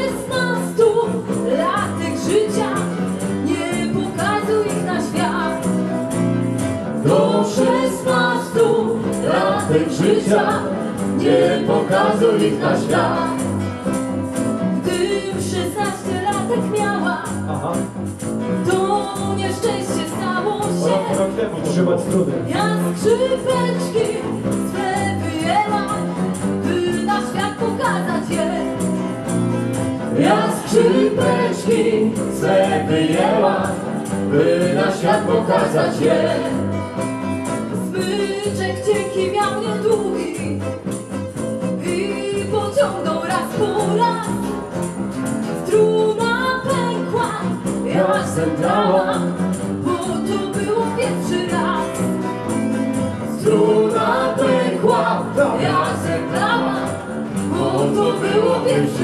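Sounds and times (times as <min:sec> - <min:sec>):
woman singing: 0:00.0 - 0:05.8, 0:07.0 - 0:13.6, 0:14.8 - 0:17.4, 0:18.6 - 0:21.4, 0:22.4 - 0:29.0, 0:30.1 - 0:37.0, 0:37.7 - 0:41.2, 0:41.8 - 0:44.7, 0:45.6 - 0:52.2, 0:53.2 - 0:59.0
acoustic guitars strummed: 0:00.0 - 0:59.0
jingling hand percussion: 0:00.0 - 0:59.0.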